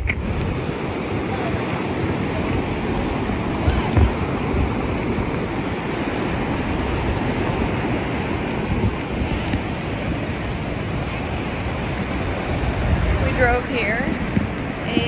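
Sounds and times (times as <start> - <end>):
ocean surf breaking: 0.0 - 15.0
wind gusts on microphone: 0.0 - 15.0.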